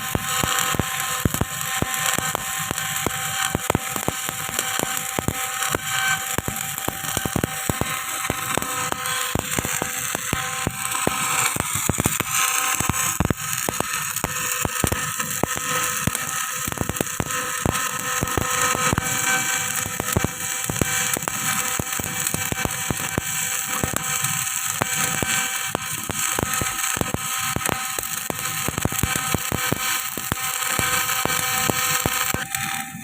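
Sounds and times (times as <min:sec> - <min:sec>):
electric arc welding crackling: 0:00.0 - 0:33.0.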